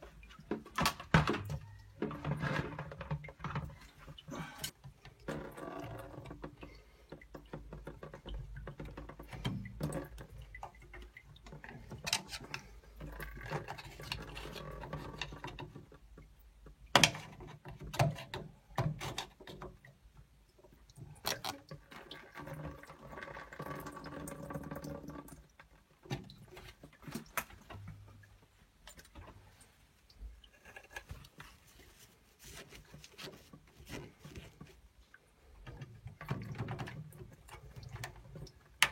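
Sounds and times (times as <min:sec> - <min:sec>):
water trickling and dripping: 0:00.0 - 0:38.9.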